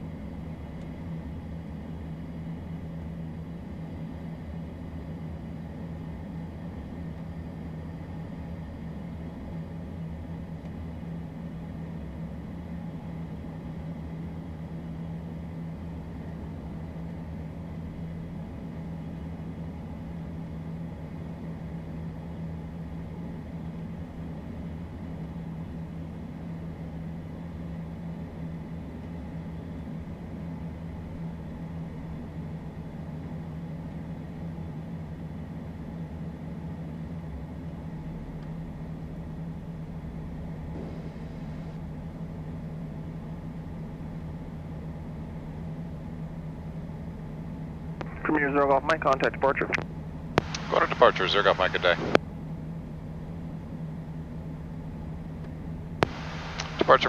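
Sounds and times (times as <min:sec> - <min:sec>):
jet cockpit engine drone: 0:00.0 - 0:57.0.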